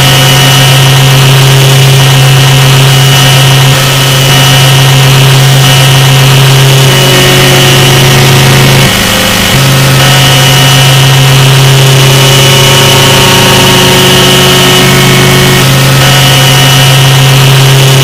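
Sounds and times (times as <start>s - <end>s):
distorted low drone: 0.0s - 18.0s.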